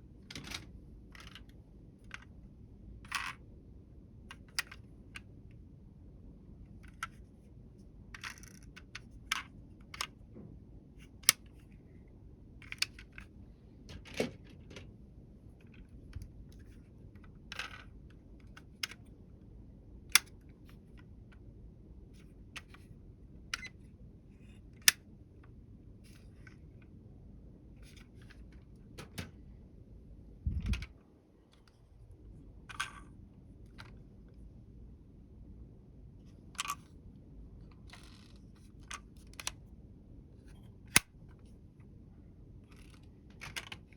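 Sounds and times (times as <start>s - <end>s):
faint low hum: 0.0s - 43.9s.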